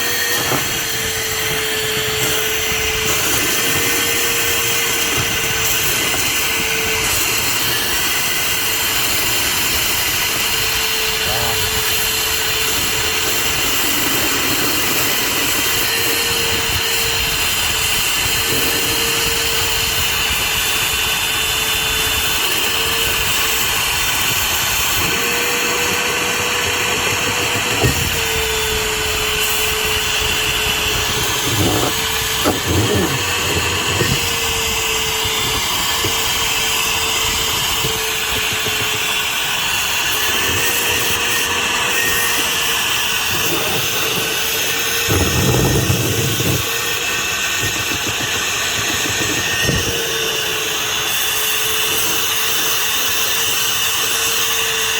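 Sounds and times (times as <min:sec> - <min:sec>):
wet dry vacuum running: 0:00.0 - 0:54.9.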